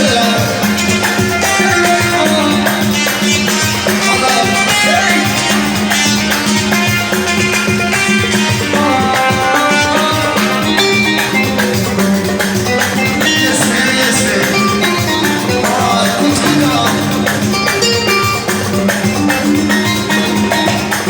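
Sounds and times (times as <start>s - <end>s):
drum and percussion beat: 0.0s - 21.0s
melodic keyboard line: 0.0s - 21.0s.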